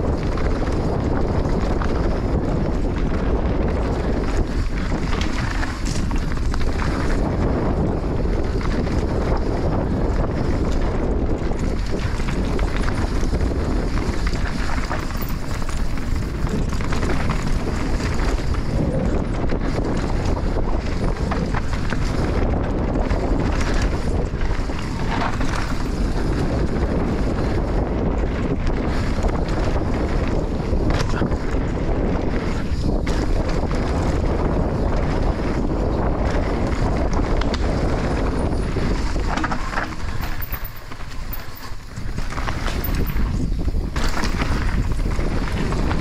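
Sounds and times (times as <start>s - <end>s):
motorcycle engine running: 0.0s - 46.0s
wind buffeting on microphone: 0.0s - 46.0s.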